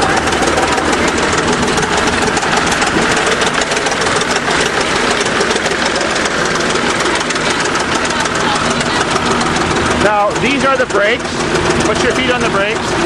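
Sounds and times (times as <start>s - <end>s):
diesel engine idling with clatter: 0.0s - 13.0s.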